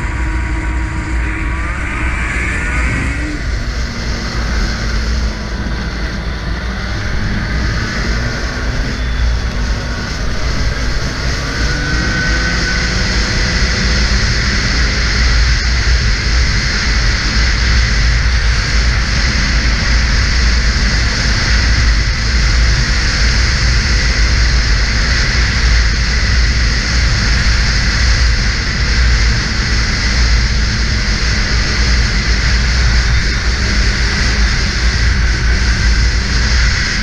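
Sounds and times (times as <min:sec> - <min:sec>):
rushing wind: 0:00.0 - 0:37.0
snowmobile engine running: 0:00.0 - 0:37.0.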